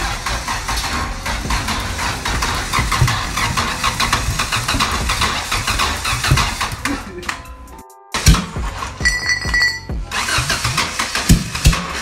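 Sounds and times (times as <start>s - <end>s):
car engine running with pops: 0.0s - 12.0s.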